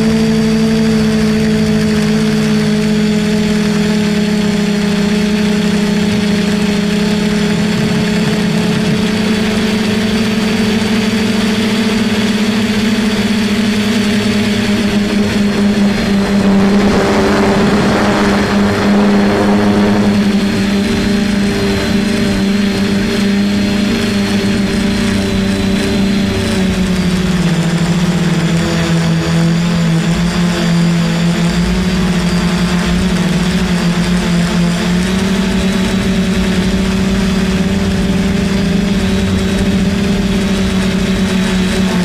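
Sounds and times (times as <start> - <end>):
quadcopter propellers humming: 0.0 - 42.0
rush of noise: 0.8 - 28.4, 35.0 - 42.0.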